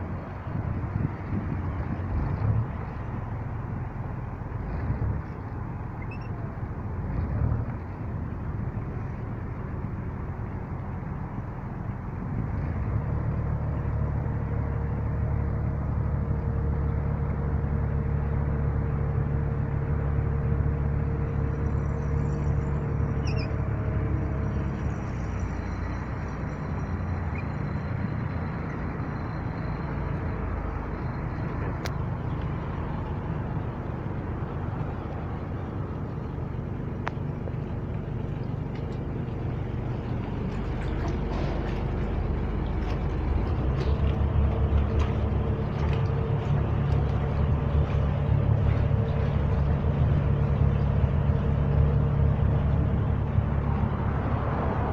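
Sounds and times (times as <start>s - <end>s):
engine droning: 0.0s - 54.9s.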